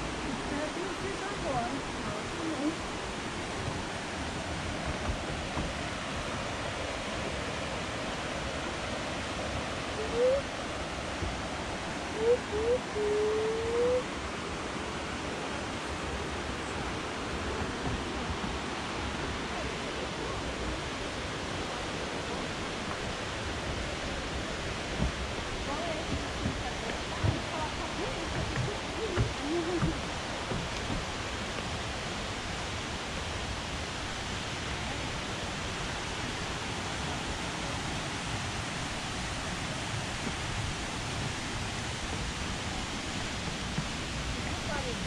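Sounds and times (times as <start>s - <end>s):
whitewater creek rushing: 0.0s - 45.0s.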